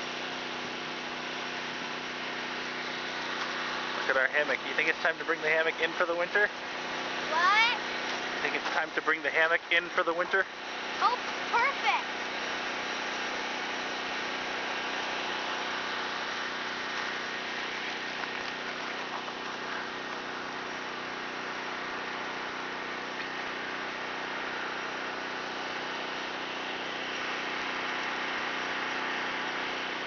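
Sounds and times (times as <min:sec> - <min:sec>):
generator running steadily: 0:00.0 - 0:30.0.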